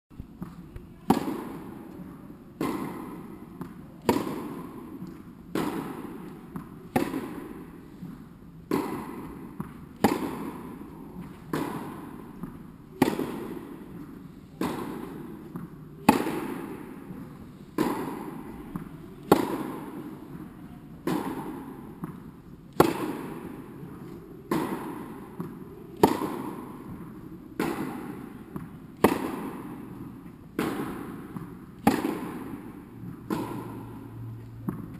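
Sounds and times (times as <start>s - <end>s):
tennis ball bouncing on court: 0.3s - 34.9s
tennis ball struck by rackets: 0.4s - 34.9s.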